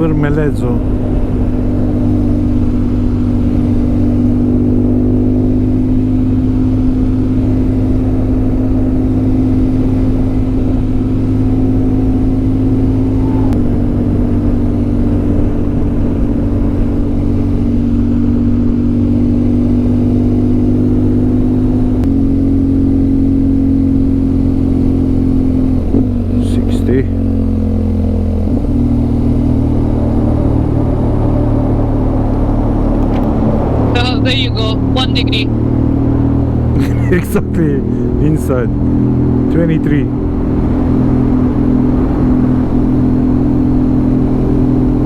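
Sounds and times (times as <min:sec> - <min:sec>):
motorcycle engine cruising: 0:00.0 - 0:45.0.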